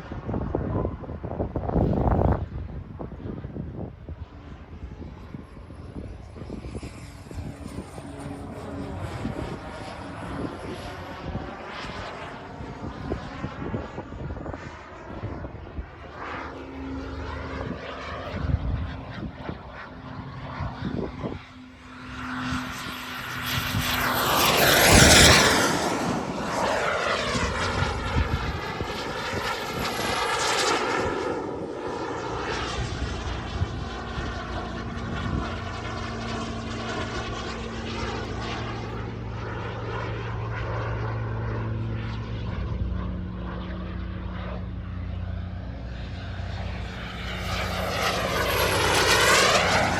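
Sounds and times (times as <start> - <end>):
jet turbine whine flying overhead: 0.0 - 49.9.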